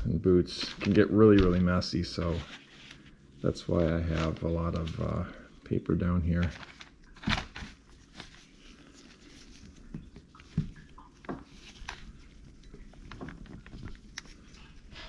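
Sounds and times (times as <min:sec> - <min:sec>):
hands rustling paper: 0:00.0 - 0:05.4, 0:06.2 - 0:15.0.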